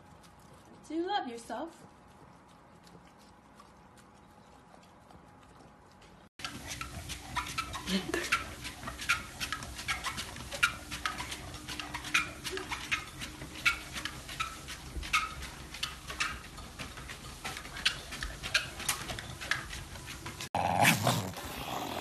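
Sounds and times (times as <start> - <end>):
dog claws clicking on treadmill belt: 0.0 - 20.5.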